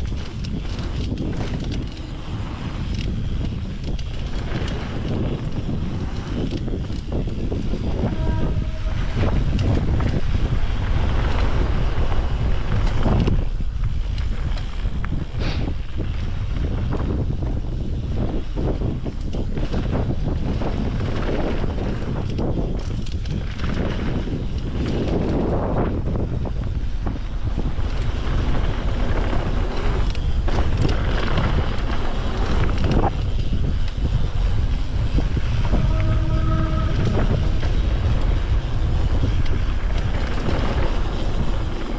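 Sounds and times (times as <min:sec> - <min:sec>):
bike clicks and rattles: 0:00.0 - 0:41.9
tyres rumbling on dirt trail: 0:00.0 - 0:41.9
wind buffeting microphone: 0:00.0 - 0:41.9.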